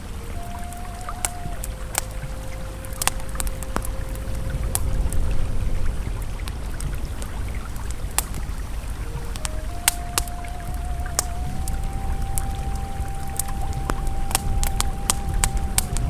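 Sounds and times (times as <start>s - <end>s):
campfire crackling and popping: 0.0s - 16.0s
river flowing: 0.0s - 16.0s
soft ambient music: 0.0s - 16.0s.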